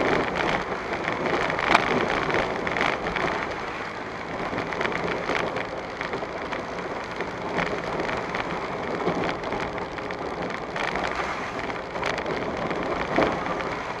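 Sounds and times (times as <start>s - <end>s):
tyre and road noise: 0.0s - 14.0s.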